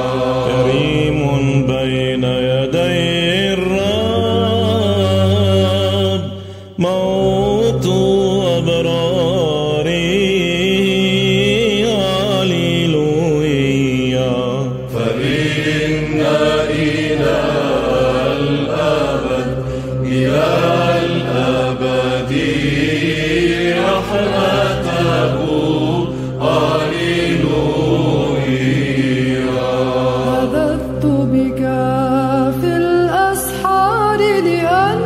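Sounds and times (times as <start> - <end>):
person chanting ornamented vocal line: 0.0 - 35.0.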